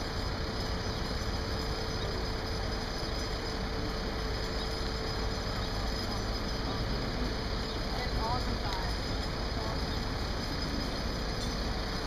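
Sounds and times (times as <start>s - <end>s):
heavy engines rumbling: 0.0s - 12.0s
mid-pitched hum: 0.0s - 12.0s.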